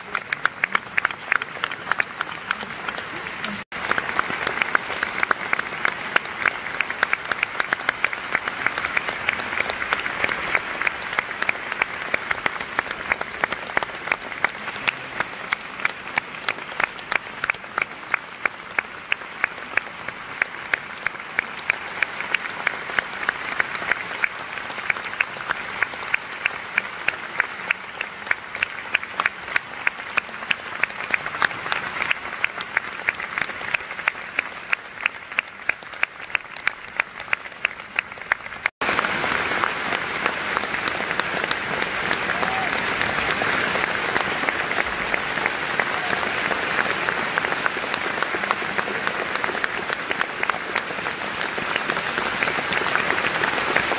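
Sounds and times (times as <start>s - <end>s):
audience applauding: 0.0s - 53.9s.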